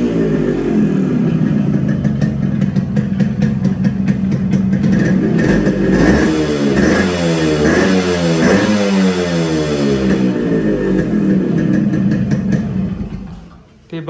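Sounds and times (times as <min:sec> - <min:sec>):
exhaust popping: 0:00.0 - 0:13.8
two-stroke engine running: 0:00.0 - 0:13.8.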